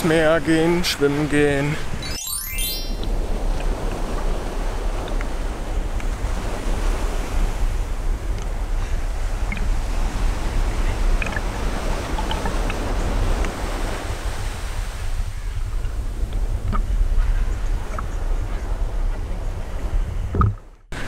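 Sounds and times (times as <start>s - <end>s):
surf washing and lapping: 3.0s - 21.0s
wind rumbling on microphone: 3.0s - 21.0s.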